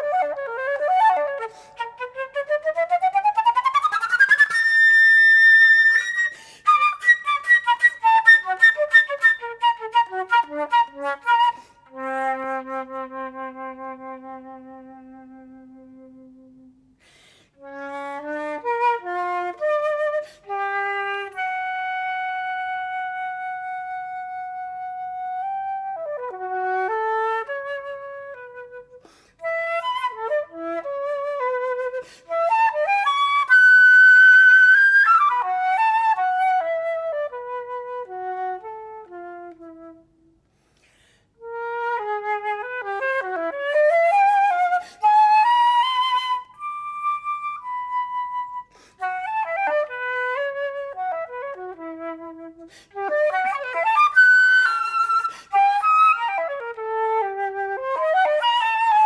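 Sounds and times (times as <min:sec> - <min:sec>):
flute melody: 0:00.0 - 0:40.5, 0:41.4 - 0:59.0.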